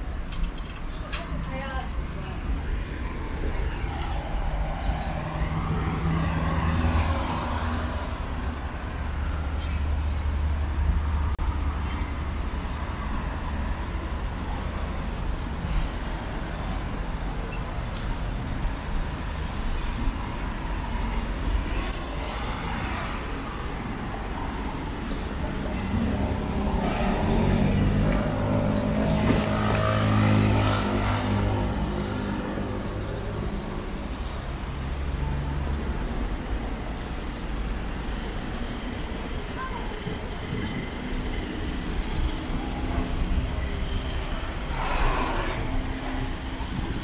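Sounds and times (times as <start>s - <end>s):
cars passing: 0.0s - 47.0s
heavy vehicle engine hum: 1.8s - 47.0s.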